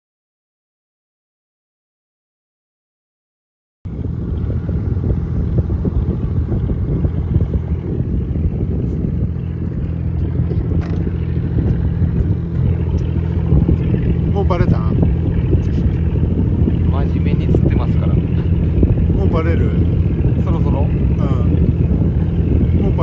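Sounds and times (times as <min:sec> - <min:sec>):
boat engine humming: 0:03.9 - 0:23.0.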